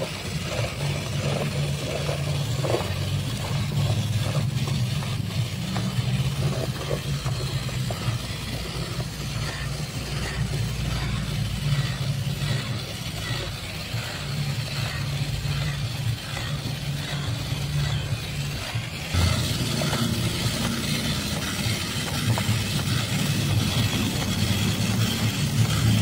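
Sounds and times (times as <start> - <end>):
small electric motor humming: 0.0 - 26.0.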